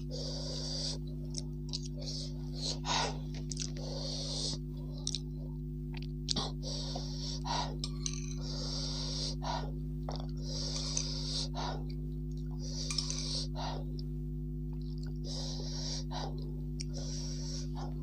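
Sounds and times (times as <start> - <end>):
person breathing hard through mouth: 0.0 - 5.4, 6.3 - 12.0, 12.6 - 14.0, 15.2 - 18.0
low electrical hum: 0.0 - 18.0.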